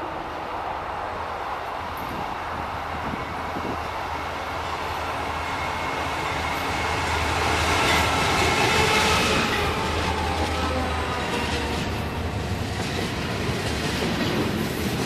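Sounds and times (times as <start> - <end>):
diesel locomotive engine rumble: 0.0 - 15.0
train wheel noise: 0.0 - 15.0.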